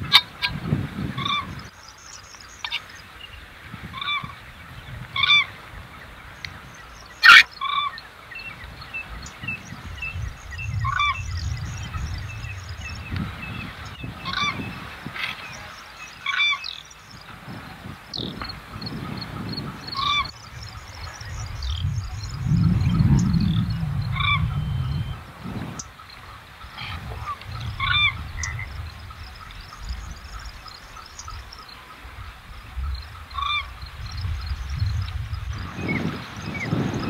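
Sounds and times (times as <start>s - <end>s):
birds honking: 0.0s - 17.3s, 18.1s - 34.1s
small birds twittering faintly: 0.0s - 37.0s.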